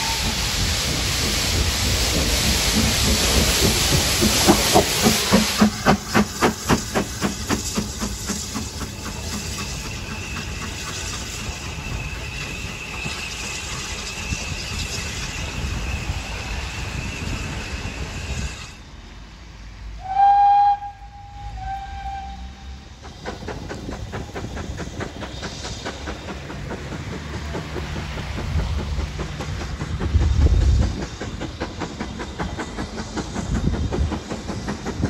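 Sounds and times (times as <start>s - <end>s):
steam hiss: 0.0s - 35.0s
steam locomotive exhaust beats: 0.0s - 35.0s.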